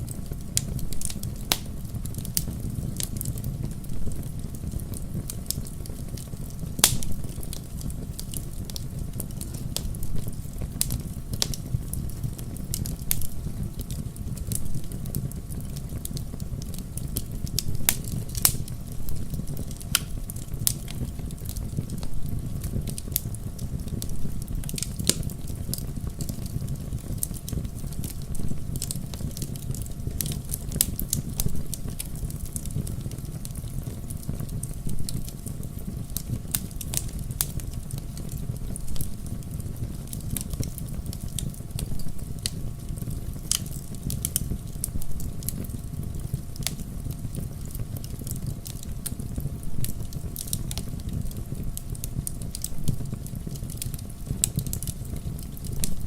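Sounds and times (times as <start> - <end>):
wood fire rumbling and crackling: 0.0 - 56.0.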